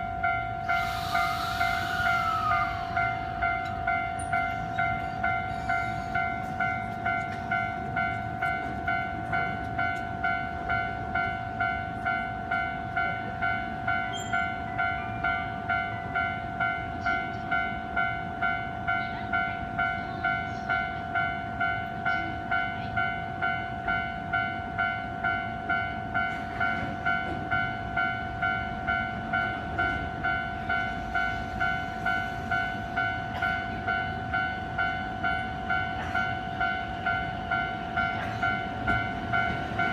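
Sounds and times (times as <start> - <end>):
level crossing warning bell ringing: 0.0 - 39.9
low rumble of rail traffic: 0.0 - 39.9.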